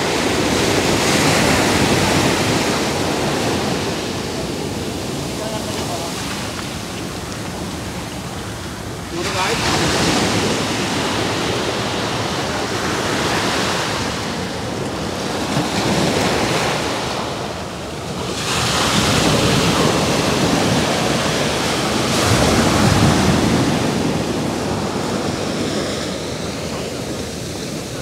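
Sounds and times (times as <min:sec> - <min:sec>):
waves breaking on shore: 0:00.0 - 0:28.0
wind buffeting microphone: 0:00.0 - 0:28.0.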